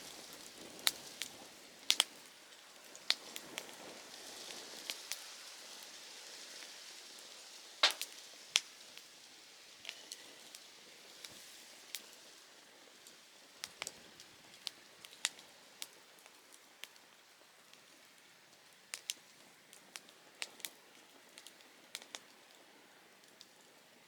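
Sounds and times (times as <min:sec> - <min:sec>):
campfire crackling and popping: 0:00.0 - 0:09.2, 0:09.8 - 0:23.8
faint hiss of burning: 0:00.0 - 0:24.0.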